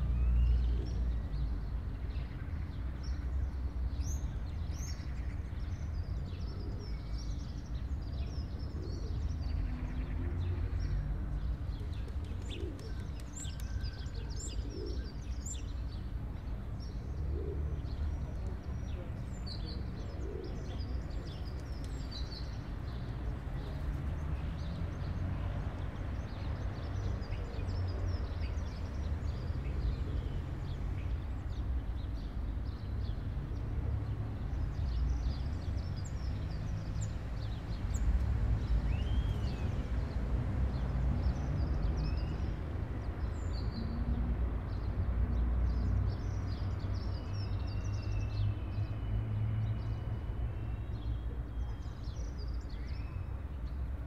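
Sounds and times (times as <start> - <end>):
low city rumble: 0.0 - 54.0.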